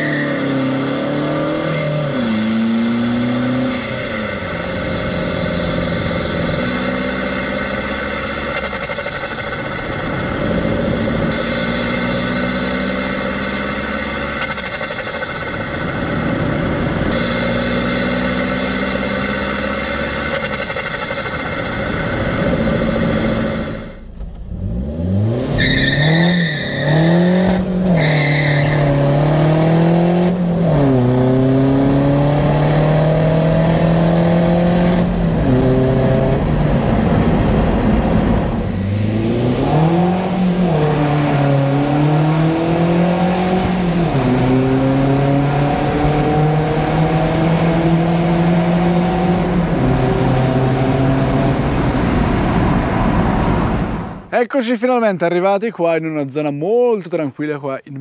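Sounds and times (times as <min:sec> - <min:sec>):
diesel engine accelerating: 0:00.0 - 0:54.3.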